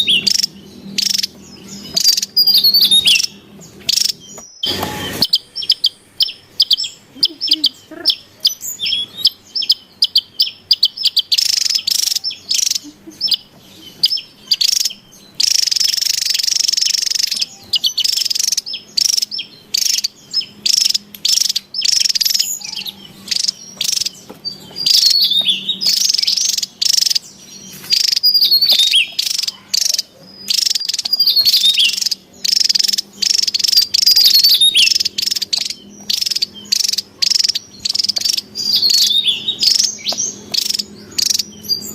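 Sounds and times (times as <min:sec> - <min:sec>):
bird chirping and twittering: 0:00.0 - 0:41.9
dense buzzing: 0:00.0 - 0:41.9.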